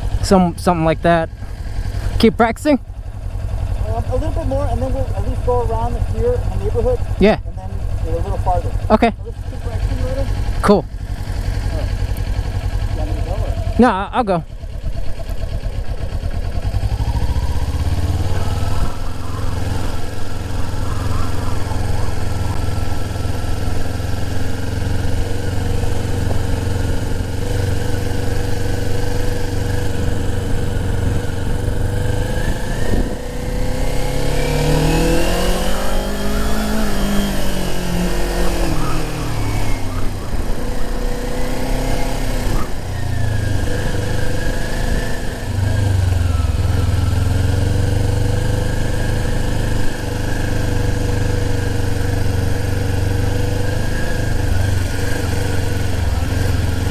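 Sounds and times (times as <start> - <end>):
motorcycle accelerating: 0.0 - 56.9
motorcycle engine idling: 0.0 - 56.9.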